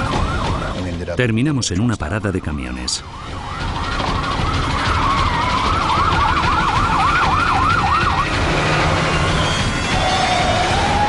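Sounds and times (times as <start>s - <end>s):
police siren yelping: 0.0s - 0.9s, 2.0s - 11.0s.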